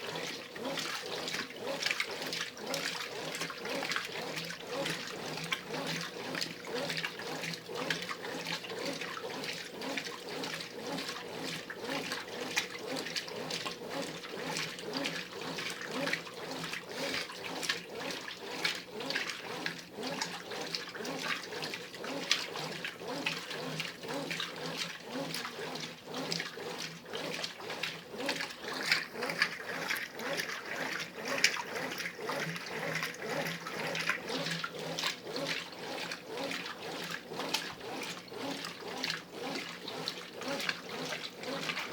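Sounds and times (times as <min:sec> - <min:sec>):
washing machine churning water: 0:00.0 - 0:41.9.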